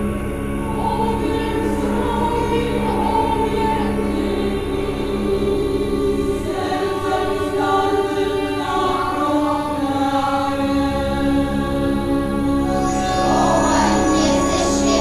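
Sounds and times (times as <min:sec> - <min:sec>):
choir singing held chords: 0:00.0 - 0:15.0
low drone: 0:00.0 - 0:15.0.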